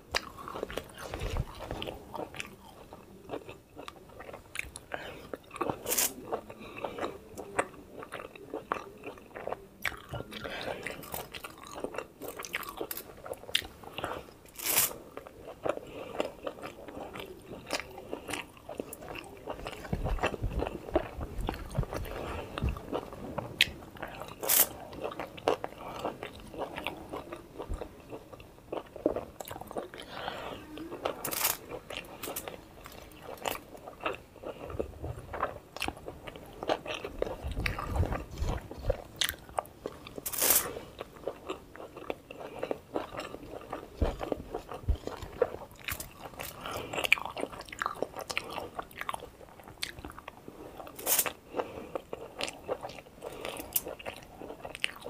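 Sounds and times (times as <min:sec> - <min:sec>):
biting and chewing: 0:00.1 - 0:30.2, 0:30.9 - 0:55.0.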